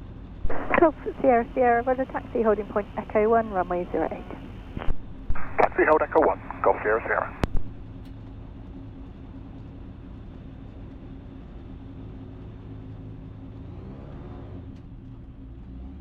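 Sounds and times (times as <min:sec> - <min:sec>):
aircraft engine running steadily: 0:00.0 - 0:13.8.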